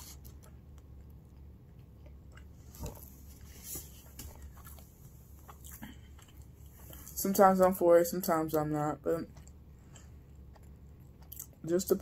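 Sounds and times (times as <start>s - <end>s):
person chewing food: 0.0s - 7.3s, 9.2s - 11.7s.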